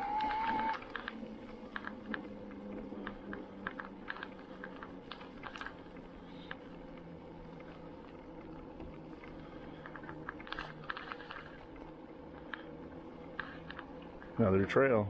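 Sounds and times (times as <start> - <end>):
electric bike motor hum: 0.0 - 15.0
tyres crackling over dry leaves: 0.8 - 15.0.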